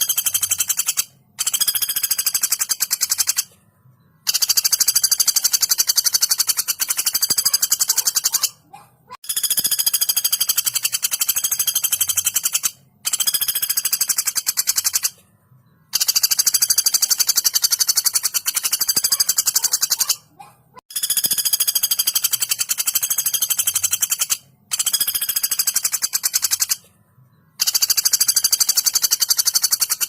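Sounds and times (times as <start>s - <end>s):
woodpecker rattling call: 0.0s - 3.5s, 4.2s - 15.2s, 15.9s - 26.9s, 27.6s - 30.0s.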